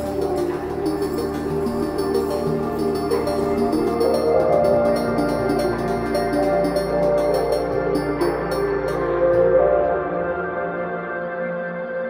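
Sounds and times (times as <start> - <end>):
ambient background music: 0.0 - 12.0.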